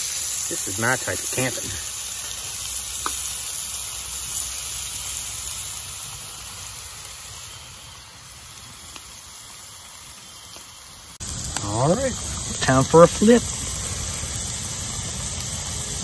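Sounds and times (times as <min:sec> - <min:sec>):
meat sizzling on a skillet: 0:00.0 - 0:16.0
mushrooms frying in a pan: 0:00.0 - 0:16.0.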